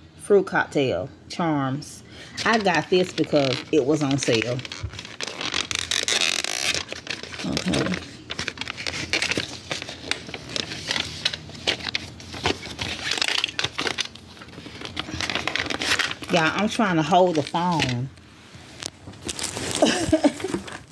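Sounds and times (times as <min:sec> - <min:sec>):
packing paper crinkling: 0:02.3 - 0:20.9.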